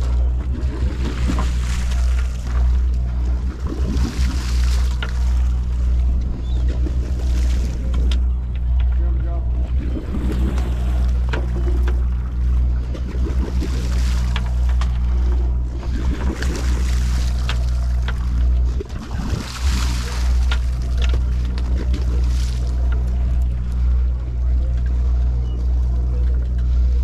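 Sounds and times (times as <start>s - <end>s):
boat engine droning: 0.0s - 27.0s
water sloshing along hull: 0.0s - 27.0s.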